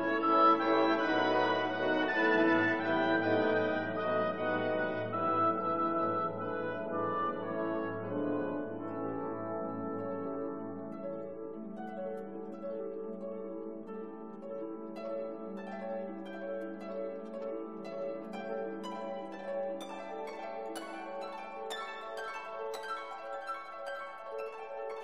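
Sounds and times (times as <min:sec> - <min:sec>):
held orchestral chords: 0:00.0 - 0:25.0.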